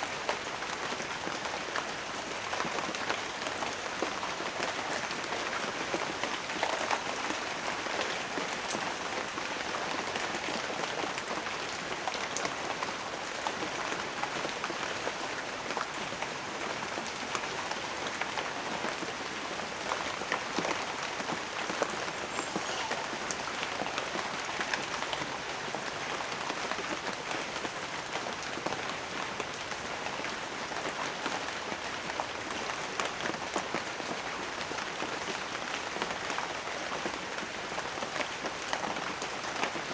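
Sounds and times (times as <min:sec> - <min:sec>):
rain pattering on hard surface: 0:00.0 - 0:39.9.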